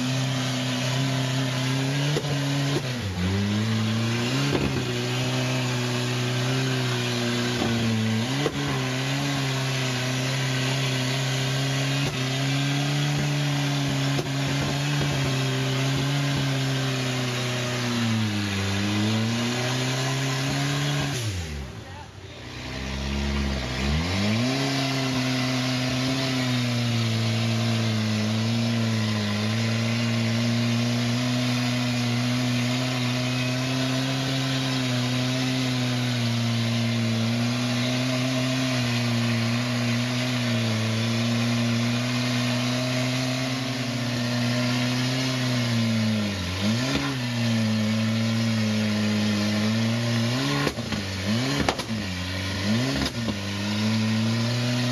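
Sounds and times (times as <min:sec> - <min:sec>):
buggy engine revving: 0:00.0 - 0:54.9.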